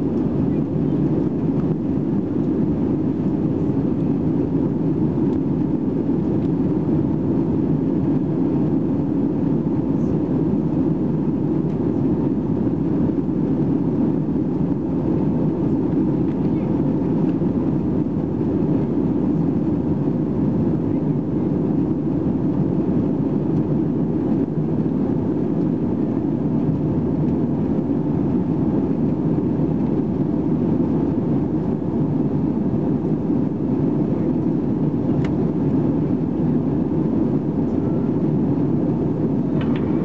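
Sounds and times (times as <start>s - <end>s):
jet engine drone: 0.0s - 40.0s.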